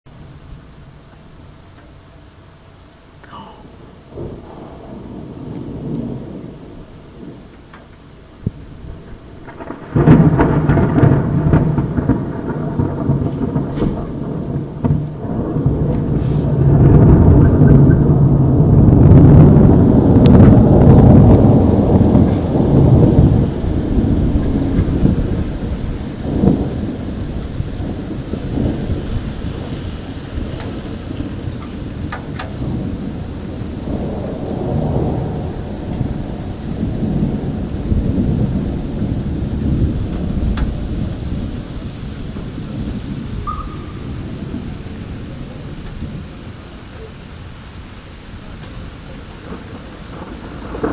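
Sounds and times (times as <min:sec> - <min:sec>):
rain falling: 0:00.1 - 0:50.9
thunder rumbling: 0:00.1 - 0:50.9.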